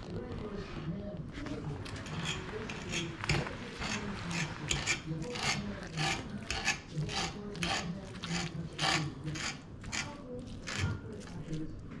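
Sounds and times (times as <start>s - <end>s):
fork scraping meat on wooden board: 0.5s - 11.6s.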